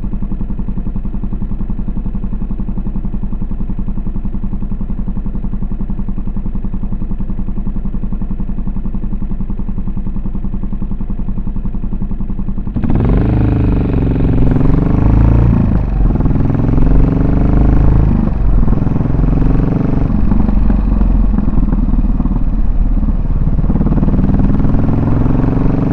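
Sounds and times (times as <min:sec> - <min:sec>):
motorcycle engine idling: 0:00.0 - 0:25.9
motorcycle engine running under way: 0:00.0 - 0:25.9.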